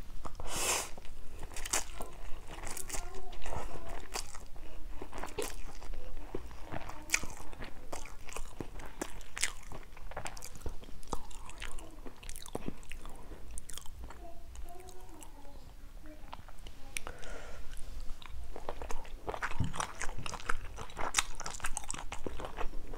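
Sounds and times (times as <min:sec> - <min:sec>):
person chewing and slurping noodles: 0:00.2 - 0:14.2, 0:17.0 - 0:22.9.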